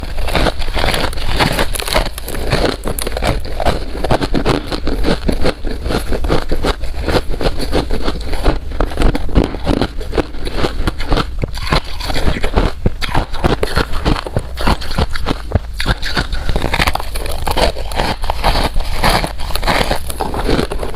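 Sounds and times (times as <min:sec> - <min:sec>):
chewing crunchy ice: 0:00.0 - 0:20.9.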